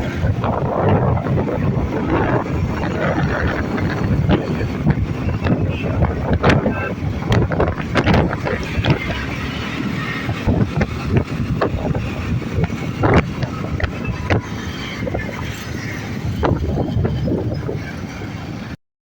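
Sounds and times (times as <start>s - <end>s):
wind buffeting microphone: 0.0s - 18.8s.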